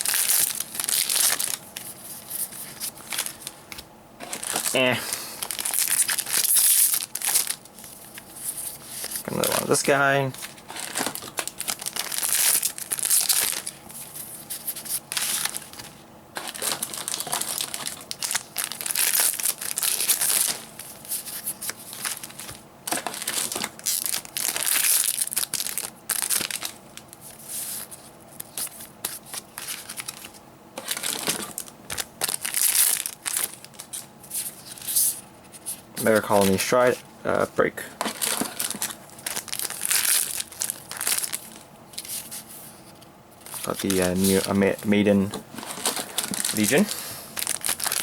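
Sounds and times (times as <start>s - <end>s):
foil packs tearing and crinkling: 0.0s - 37.0s, 37.9s - 42.8s, 43.4s - 48.0s.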